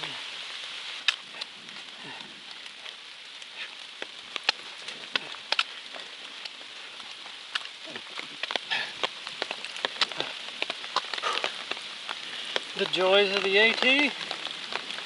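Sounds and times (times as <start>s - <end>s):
rain hiss: 0.0s - 15.0s
raindrops ticking on umbrella: 0.0s - 15.0s.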